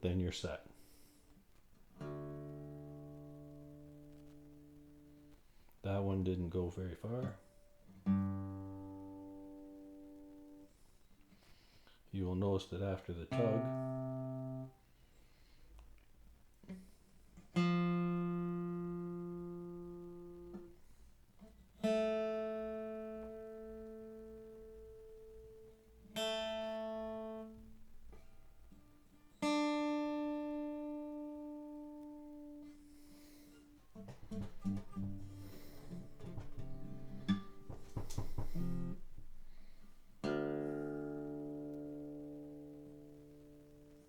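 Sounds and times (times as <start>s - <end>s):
acoustic guitar strings plucked: 1.9s - 10.7s, 13.3s - 14.8s, 16.7s - 20.8s, 21.4s - 44.0s.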